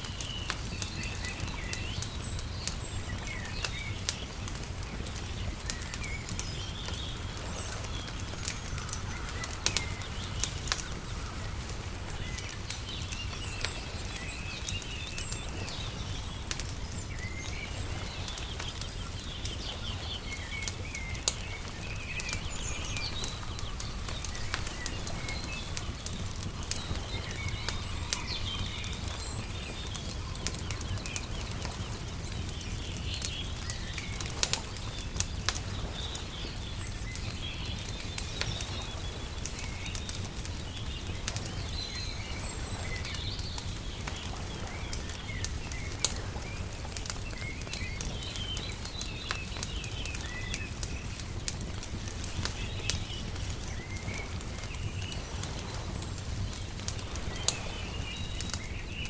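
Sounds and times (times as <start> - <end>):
small birds chirping: 0.0 - 59.0
wood fire crackling and popping: 0.0 - 59.0.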